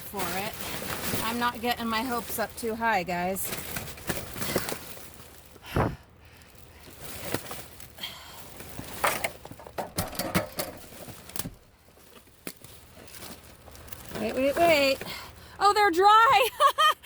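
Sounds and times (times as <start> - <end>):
plastic bag rustling: 0.0 - 16.4.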